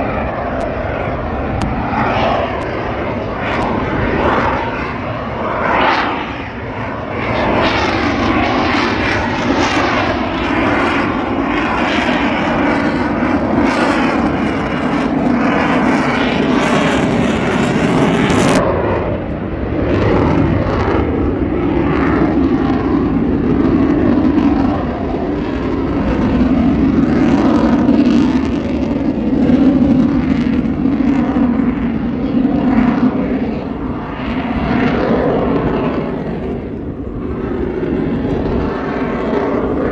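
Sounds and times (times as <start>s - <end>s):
aircraft engine roar: 0.0s - 39.9s.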